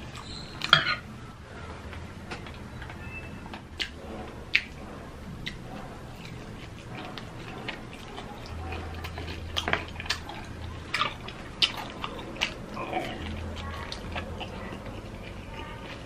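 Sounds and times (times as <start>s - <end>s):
crunchy food chewing: 0.0s - 16.0s.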